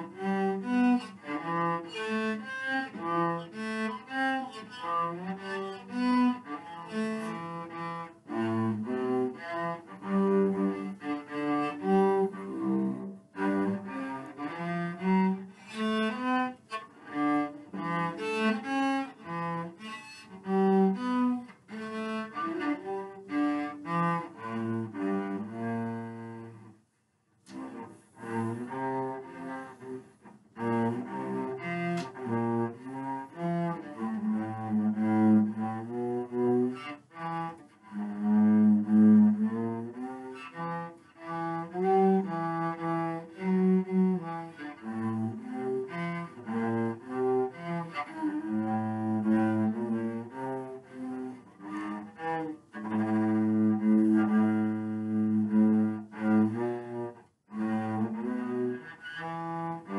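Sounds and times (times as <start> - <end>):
bowed cello melody: 0.0 - 59.9.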